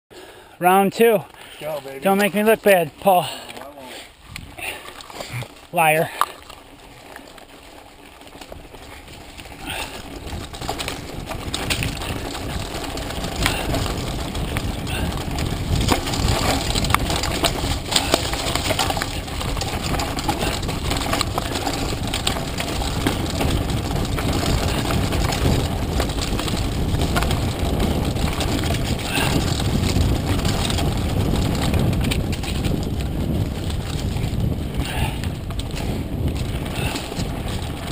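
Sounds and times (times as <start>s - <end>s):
bike rattling and knocking: 0.3s - 37.9s
wind rumbling on microphone: 2.0s - 37.9s.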